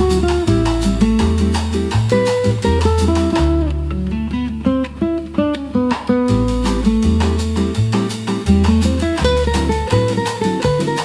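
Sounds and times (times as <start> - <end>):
sustained bass line: 0.0 - 5.1, 6.3 - 10.9
bossa nova acoustic guitar: 0.0 - 11.0.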